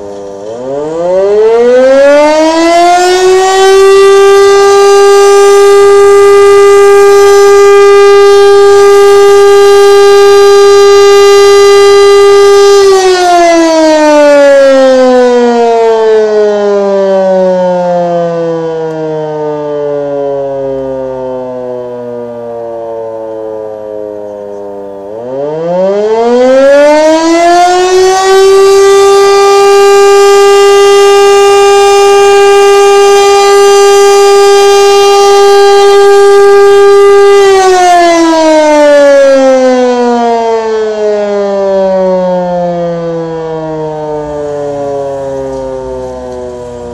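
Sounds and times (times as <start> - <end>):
electric motor siren wailing: 0.0 - 46.9.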